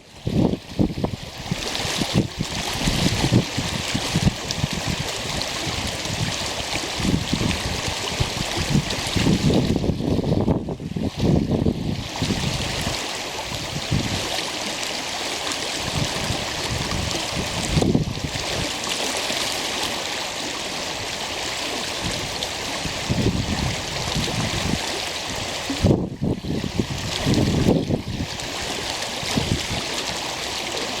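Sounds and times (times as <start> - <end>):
stream water rushing: 0.0 - 31.0
wind buffeting microphone: 0.1 - 14.4, 15.8 - 18.8, 21.9 - 30.0.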